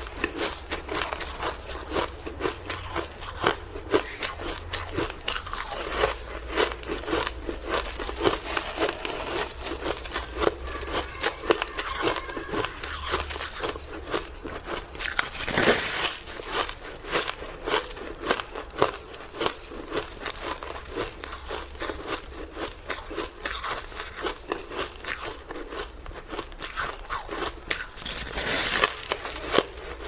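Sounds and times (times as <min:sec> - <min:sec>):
shaved ice crunching: 0:00.0 - 0:30.0.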